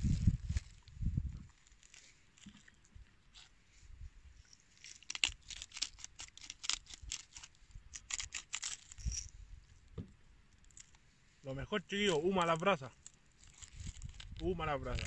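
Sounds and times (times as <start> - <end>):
dry corn husk crackling: 0.0 - 3.6, 4.4 - 9.2, 10.6 - 15.0.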